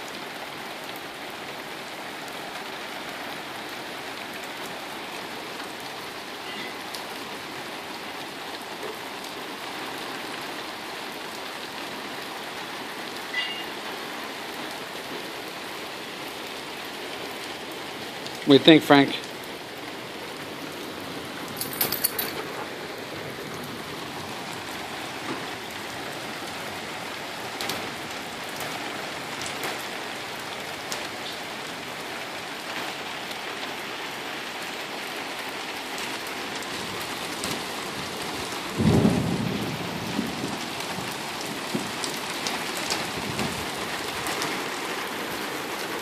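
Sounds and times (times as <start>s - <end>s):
heavy rain on concrete: 0.0s - 46.0s.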